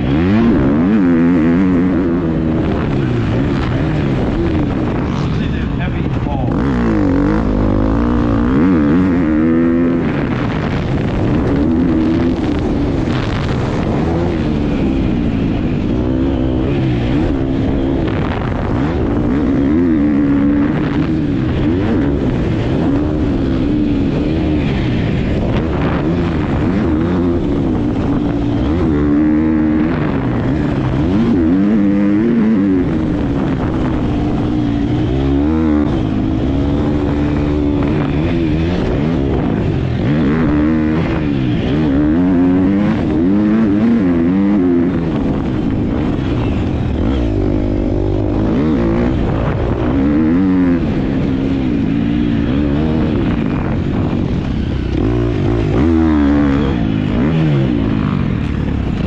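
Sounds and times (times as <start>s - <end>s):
dirt bike engine revving: 0.0s - 59.0s
wind rushing: 0.0s - 59.0s.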